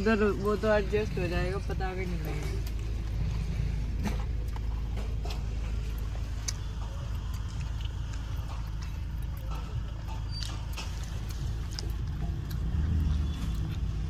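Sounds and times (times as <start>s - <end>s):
car engine rumble from inside: 0.0s - 14.0s.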